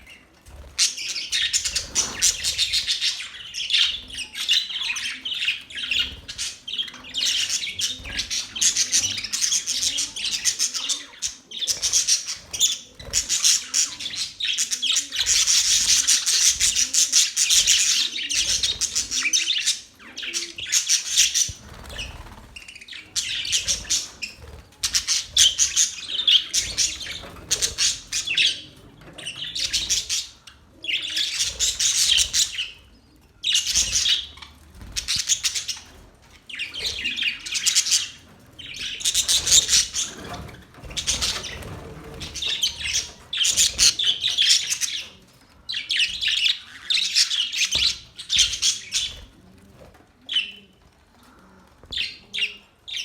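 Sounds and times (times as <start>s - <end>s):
budgerigars chirping and chattering: 0.0s - 50.9s, 51.8s - 53.0s.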